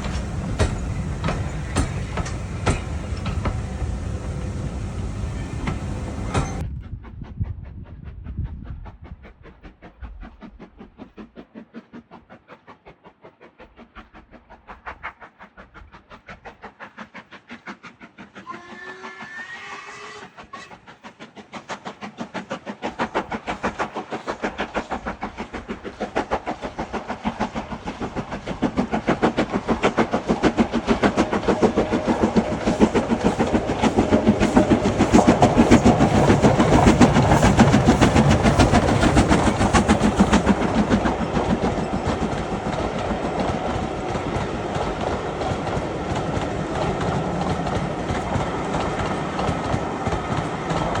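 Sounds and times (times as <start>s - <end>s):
steam locomotive exhaust beats: 0.0s - 11.2s, 13.8s - 51.0s
train rumble and clatter: 0.0s - 51.0s.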